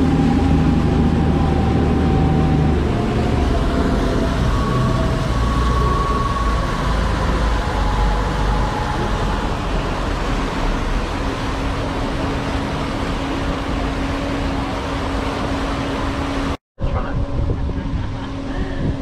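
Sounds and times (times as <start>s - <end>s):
rushing wash of water: 0.0s - 16.6s
boat engine low rumble: 0.0s - 19.0s.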